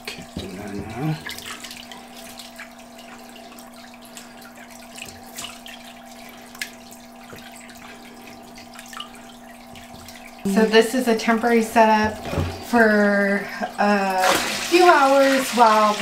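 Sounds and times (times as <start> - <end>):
steady hum: 0.0 - 15.9
water trickling and splashing: 0.0 - 16.0.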